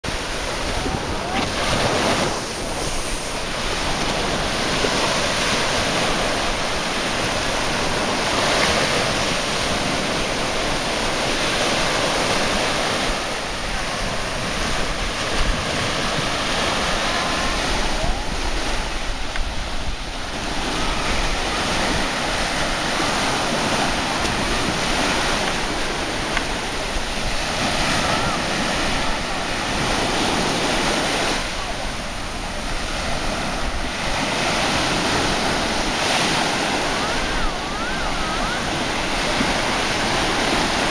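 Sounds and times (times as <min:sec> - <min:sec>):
surf breaking on sandy shore: 0:00.0 - 0:40.9
wind on microphone: 0:00.0 - 0:40.9.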